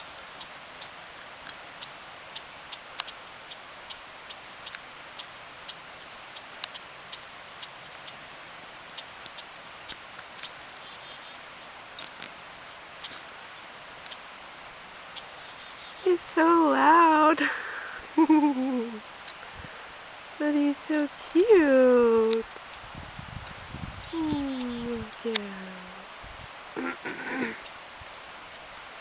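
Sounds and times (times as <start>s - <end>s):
squirrel clicking: 0.2s - 29.0s.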